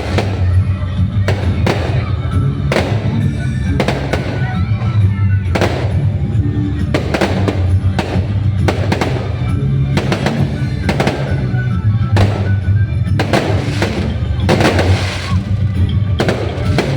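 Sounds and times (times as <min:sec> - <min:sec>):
fireworks bangs: 0:00.0 - 0:16.9
loud music with heavy bass: 0:00.0 - 0:16.9.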